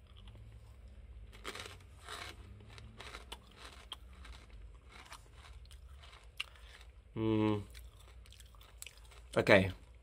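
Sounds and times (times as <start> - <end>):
crunchy chewing: 0.0 - 7.0, 7.6 - 10.0.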